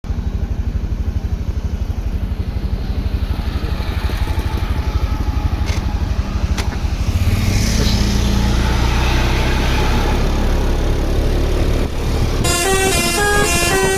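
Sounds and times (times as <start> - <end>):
bus engine throbbing: 0.0 - 13.9.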